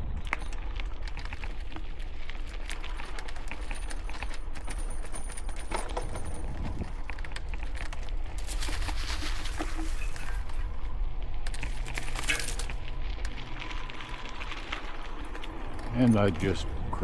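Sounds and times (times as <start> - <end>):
bike clicks and rattles: 0.0 - 16.6
wind and tyres rumbling: 0.0 - 17.0.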